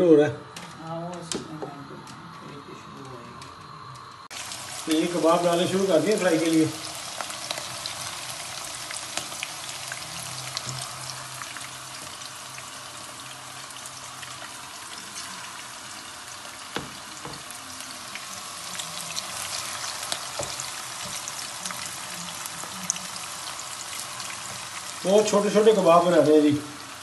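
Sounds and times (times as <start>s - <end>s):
meat sizzling in hot fat: 4.2s - 27.0s.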